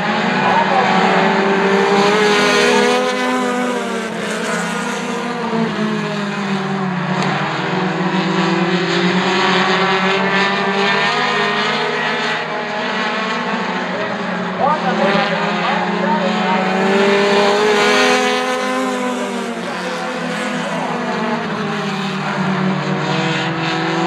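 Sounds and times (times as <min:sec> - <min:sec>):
stock car engines droning: 0:00.0 - 0:24.0.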